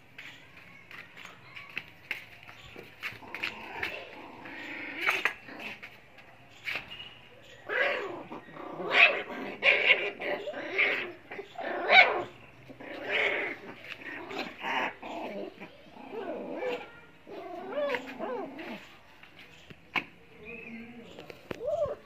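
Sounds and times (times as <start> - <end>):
puppies play-fighting: 0.0 - 22.0.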